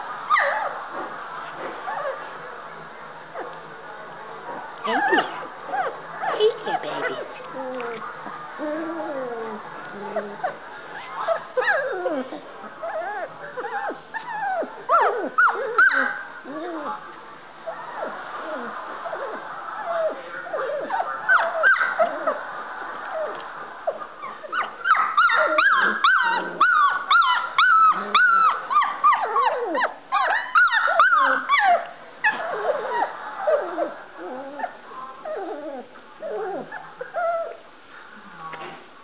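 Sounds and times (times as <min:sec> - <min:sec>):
puppies whining and yipping: 0:00.3 - 0:01.0, 0:04.8 - 0:17.0, 0:17.7 - 0:37.6.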